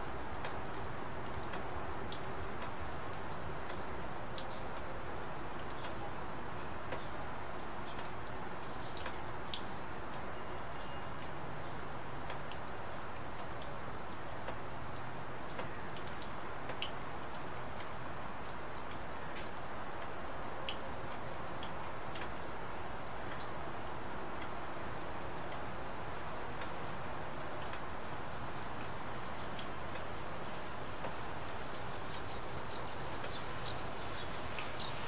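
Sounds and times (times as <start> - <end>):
rain hiss: 0.0 - 35.0
raindrops ticking close by: 0.0 - 35.0.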